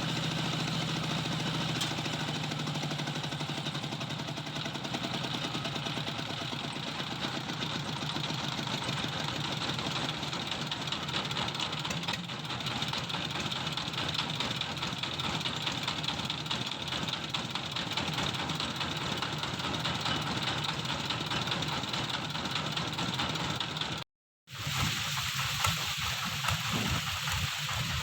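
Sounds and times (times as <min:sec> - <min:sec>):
motorised corn sheller running: 0:00.0 - 0:28.0.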